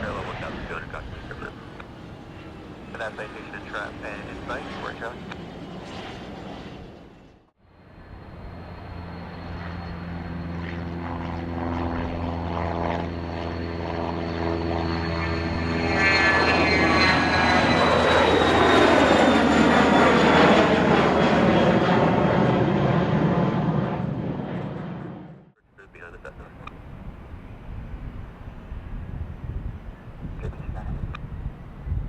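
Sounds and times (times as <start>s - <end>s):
airplane engine drone: 0.0s - 32.0s
rushing airplane passing: 0.0s - 32.0s.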